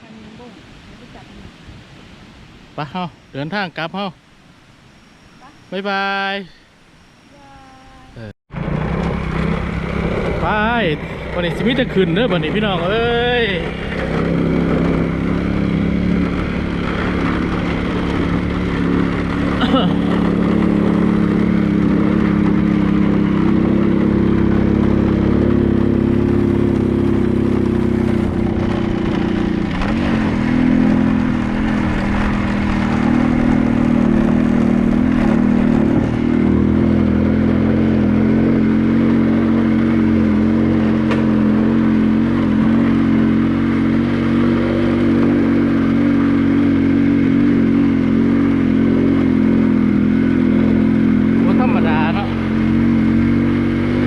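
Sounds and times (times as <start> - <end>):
motorcycle engine running: 7.3 - 54.0.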